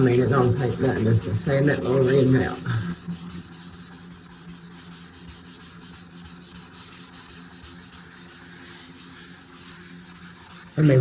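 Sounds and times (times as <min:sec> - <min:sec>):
low steady hum: 0:00.0 - 0:11.0
sanding drywall: 0:00.0 - 0:11.0.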